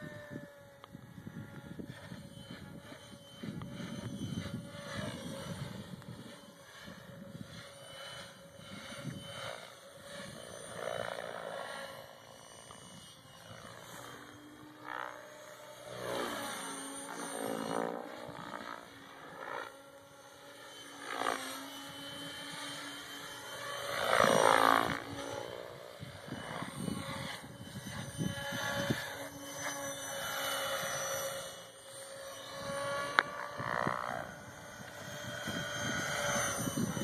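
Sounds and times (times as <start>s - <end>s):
model helicopter rotor whine: 0.0s - 37.0s.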